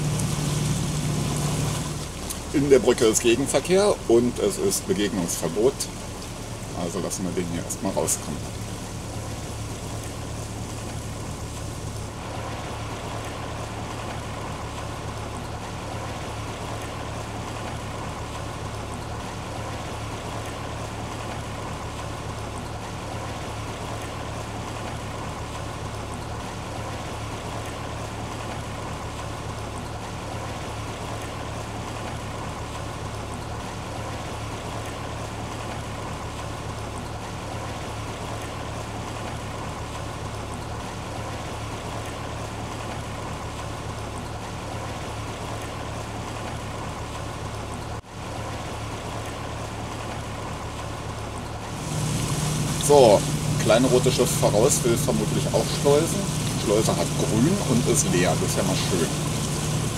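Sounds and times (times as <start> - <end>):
motorboat engine running: 0.0 - 59.9
water noise: 0.0 - 59.9.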